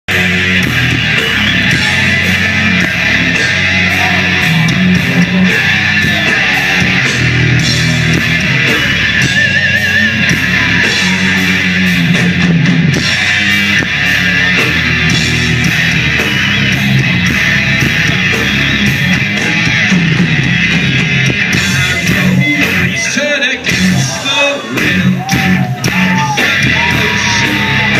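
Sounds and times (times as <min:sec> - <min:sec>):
bass guitar: 0:00.0 - 0:27.9
distorted electric guitars: 0:00.1 - 0:27.9
steady drum beat: 0:00.1 - 0:27.9.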